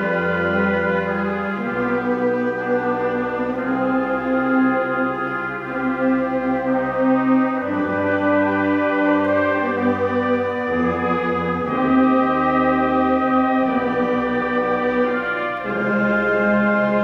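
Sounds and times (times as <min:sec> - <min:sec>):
band playing slow chorale: 0:00.0 - 0:17.0.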